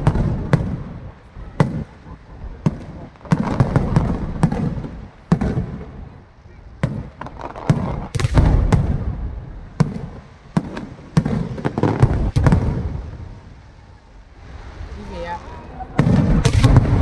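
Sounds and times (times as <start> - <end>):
fireworks bangs and booms: 0.0 - 17.0.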